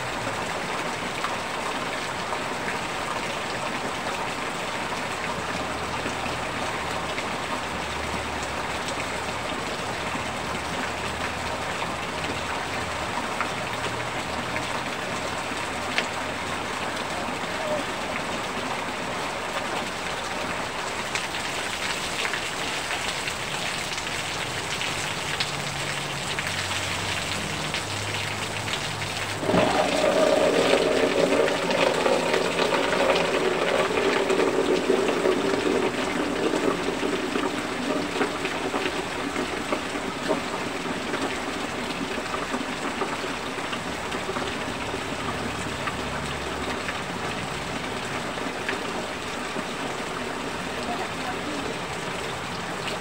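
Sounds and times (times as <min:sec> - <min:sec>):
heavy rain falling: 0:00.0 - 0:53.0
runoff water splashing: 0:00.0 - 0:53.0.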